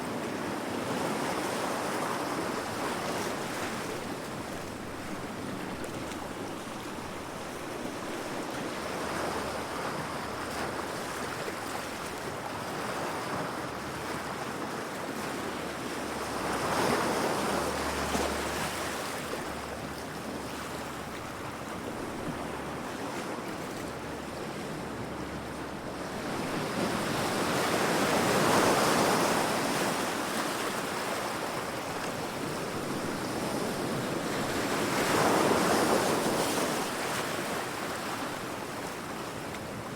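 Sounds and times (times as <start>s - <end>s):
sea waves breaking against rocks: 0.5s - 39.9s.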